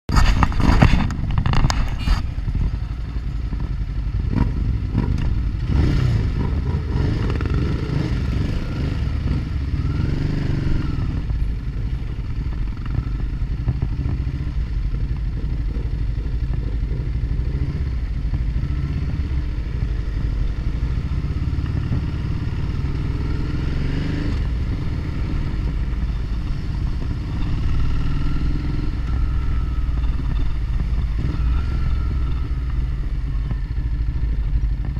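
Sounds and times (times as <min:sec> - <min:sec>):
motorcycle engine running: 0:00.1 - 0:34.9
wind and road noise: 0:00.1 - 0:34.9.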